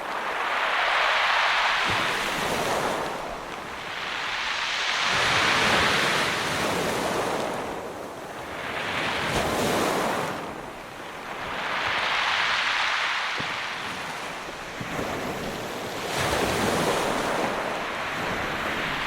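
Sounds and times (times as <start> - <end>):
ocean waves washing ashore: 0.0 - 19.0.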